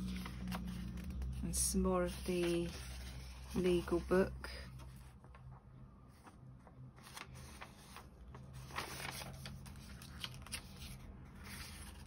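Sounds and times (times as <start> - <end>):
paper page rustling: 0.0 - 1.4, 2.0 - 4.1, 4.8 - 12.0.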